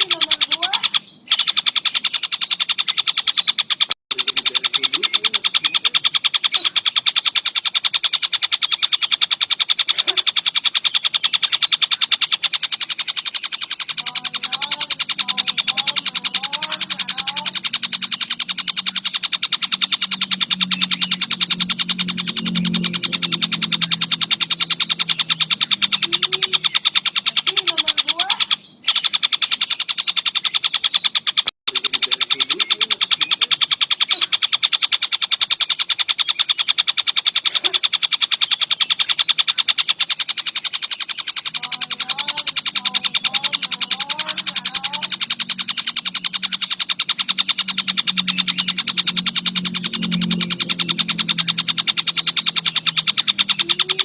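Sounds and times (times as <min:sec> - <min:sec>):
kingfisher chattering rattle: 0:00.0 - 0:54.0.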